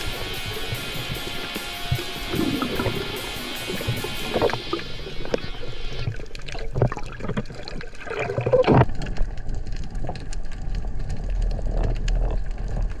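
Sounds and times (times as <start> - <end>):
muffled underwater water swishing: 0.0 - 13.0
water surges: 0.0 - 13.0
underwater clicks: 0.6 - 13.0.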